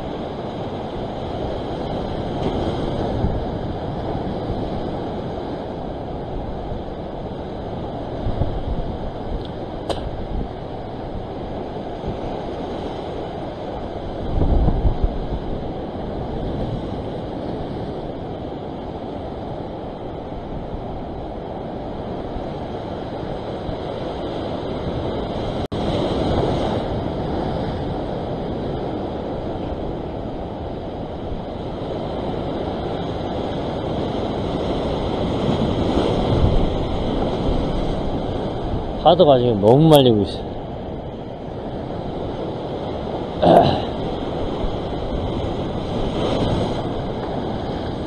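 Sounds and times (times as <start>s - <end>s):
ocean surf breaking: 0.0s - 48.0s
wind buffeting microphone: 0.0s - 48.0s.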